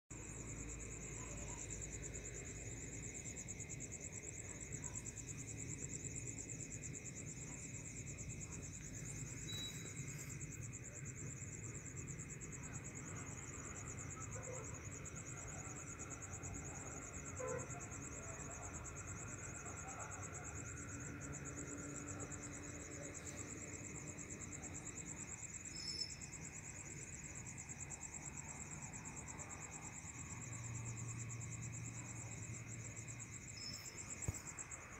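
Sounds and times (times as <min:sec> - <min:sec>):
crickets chirring: 0:00.1 - 0:34.9.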